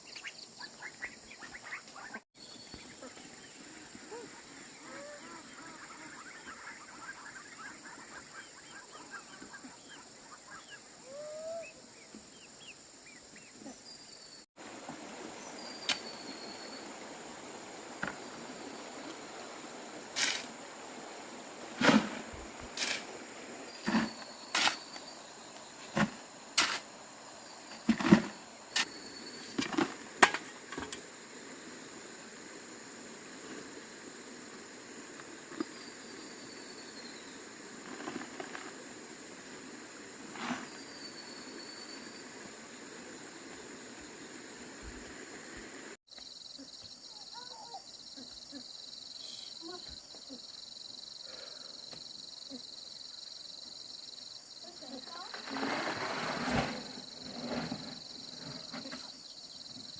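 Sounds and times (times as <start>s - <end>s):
crickets buzzing: 0.0s - 59.9s.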